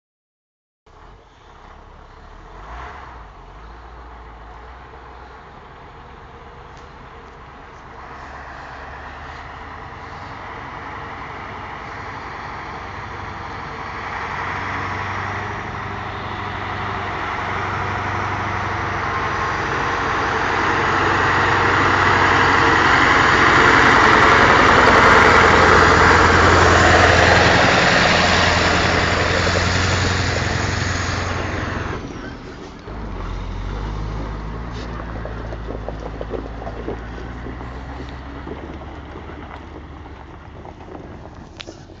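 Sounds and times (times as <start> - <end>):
diesel truck engine running: 0.9 - 42.0
falling engine whine: 6.7 - 42.0.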